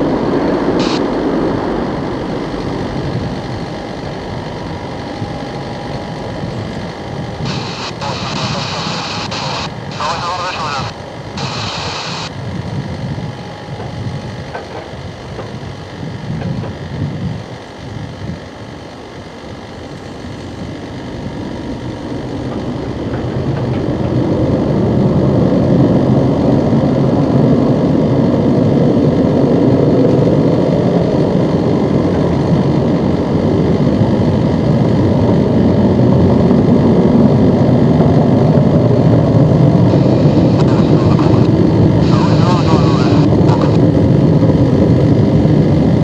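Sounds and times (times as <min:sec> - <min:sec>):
jet engines roaring: 0:00.0 - 0:46.0.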